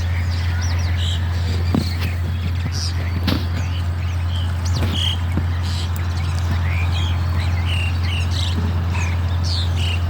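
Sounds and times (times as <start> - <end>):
high chirping bird calls: 0.0 - 10.0.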